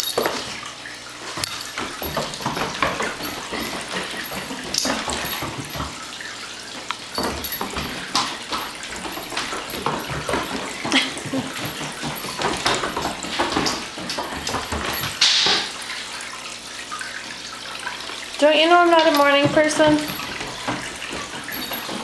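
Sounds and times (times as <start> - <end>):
paws scuffling on wooden floor: 0.0 - 16.1, 17.9 - 22.0.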